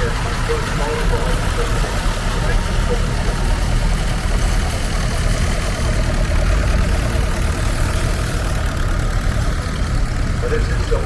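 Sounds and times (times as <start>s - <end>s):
rhythmic engine beat: 0.0s - 11.0s
tractor engines rumbling: 0.0s - 11.0s.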